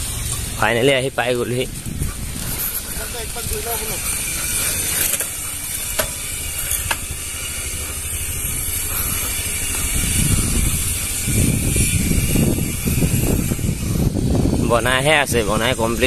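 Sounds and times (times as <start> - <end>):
wind on microphone: 0.0 - 4.9, 8.0 - 16.0
bicycle freewheel ratchet clicking: 0.0 - 16.0.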